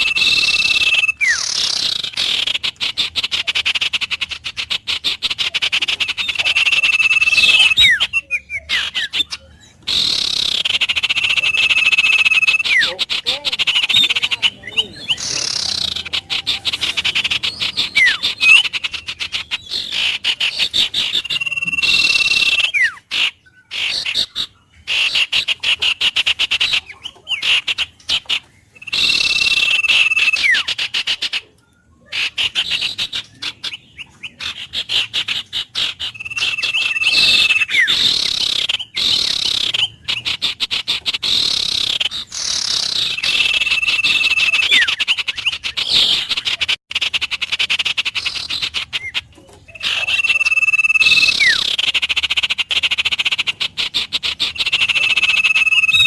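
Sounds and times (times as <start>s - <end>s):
birds whistling: 0.0s - 56.0s
frogs calling in trills: 0.0s - 56.0s.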